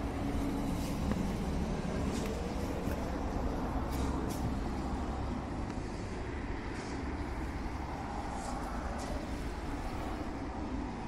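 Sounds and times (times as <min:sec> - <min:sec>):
distant traffic rumble: 0:00.0 - 0:11.0.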